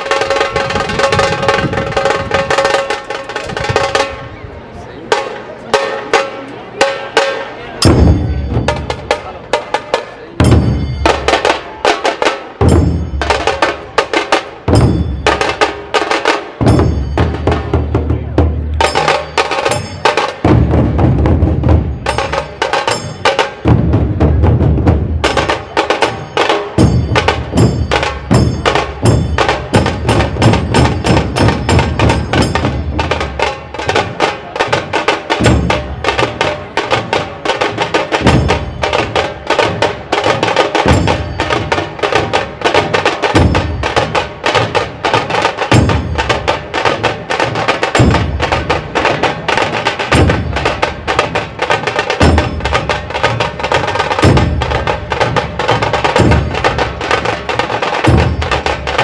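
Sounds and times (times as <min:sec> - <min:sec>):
barrel drums booming: 0:00.0 - 0:04.3, 0:05.1 - 0:59.0
rapid sharp drum strokes: 0:00.0 - 0:04.3, 0:05.1 - 0:59.0.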